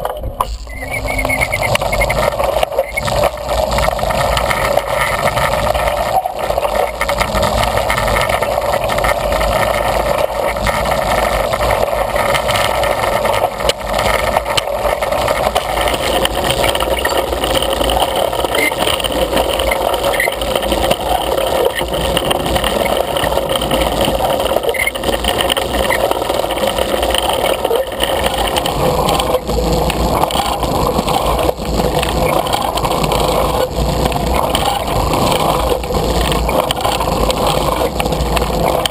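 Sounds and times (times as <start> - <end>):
gear drive turning: 0.0 - 38.9
wheels rolling on rails: 0.0 - 38.9.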